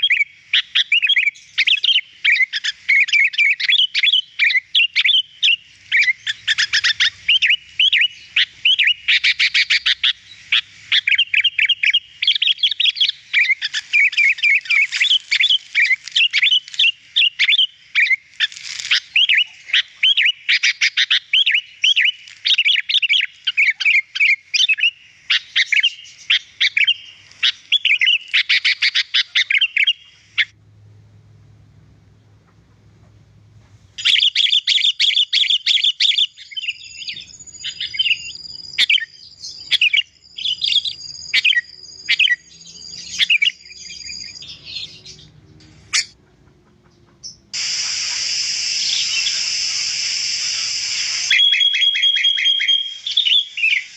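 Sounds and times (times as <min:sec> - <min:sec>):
bird chirping and whistling: 0:00.0 - 0:10.1, 0:10.9 - 0:18.2, 0:19.1 - 0:30.5, 0:34.0 - 0:45.2, 0:47.6 - 0:53.9.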